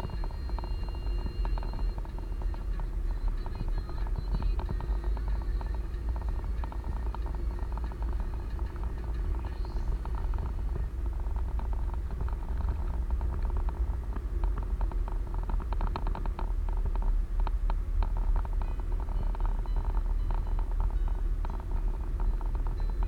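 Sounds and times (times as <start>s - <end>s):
vehicle rumbling: 0.0s - 23.0s.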